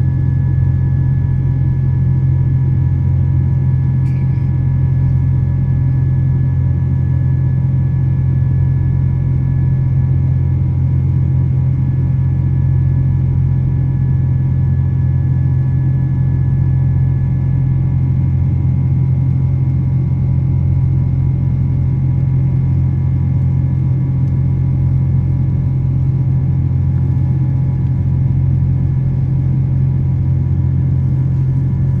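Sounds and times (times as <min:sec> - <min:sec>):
airliner cabin engine drone: 0:00.0 - 0:32.0.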